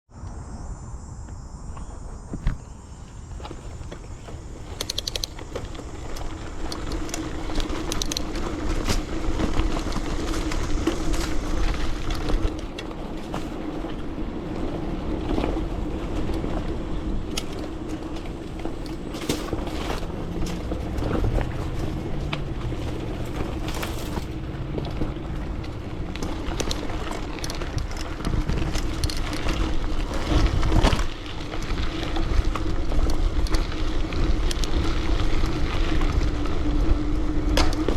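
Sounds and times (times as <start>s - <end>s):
bike rolling rumble: 0.1s - 37.9s
bike rattling over bumps: 1.6s - 37.9s.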